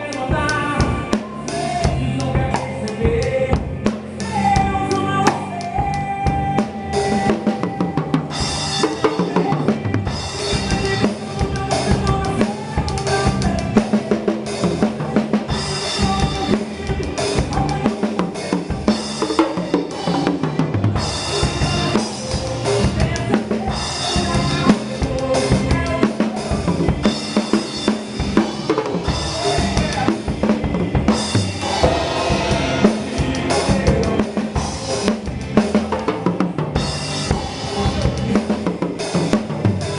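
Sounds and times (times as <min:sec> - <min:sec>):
drum kit playing: 0:00.0 - 0:39.9
instrumental gospel music: 0:00.0 - 0:39.9.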